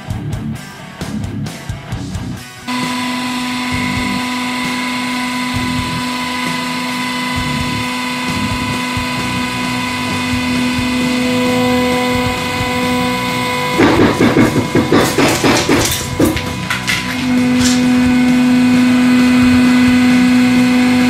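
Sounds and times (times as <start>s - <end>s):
hydraulic press humming: 2.7s - 21.0s.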